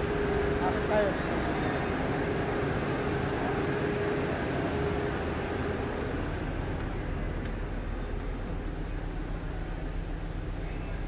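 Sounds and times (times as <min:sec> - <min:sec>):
idling bus drone: 0:00.0 - 0:11.0.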